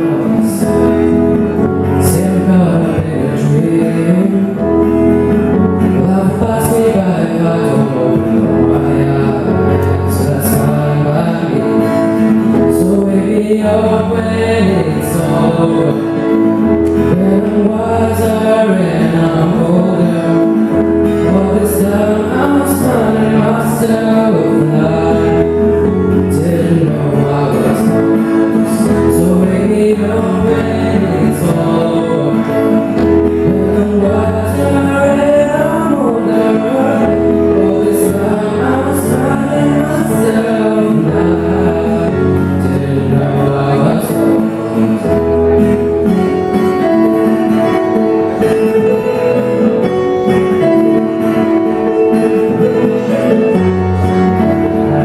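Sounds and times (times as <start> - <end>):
acoustic guitar: 0.0 - 55.0
keyboard: 0.0 - 55.0
young man singing into a microphone: 0.0 - 55.0.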